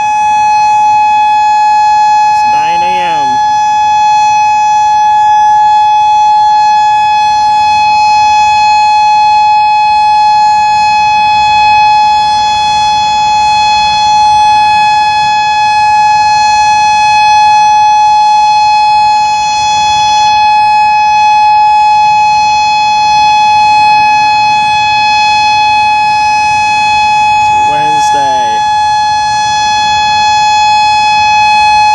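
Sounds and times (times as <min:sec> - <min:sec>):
outdoor warning siren steady tone: 0:00.0 - 0:31.9.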